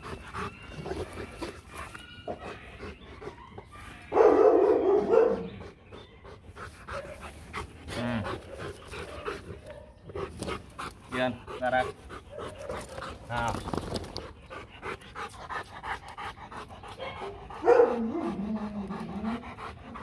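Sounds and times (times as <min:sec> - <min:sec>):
quiet dog sounds: 0:00.0 - 0:20.0.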